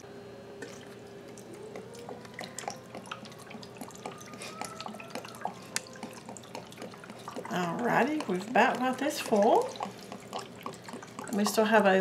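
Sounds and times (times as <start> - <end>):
liquid trickling and dripping: 0.6 - 12.0.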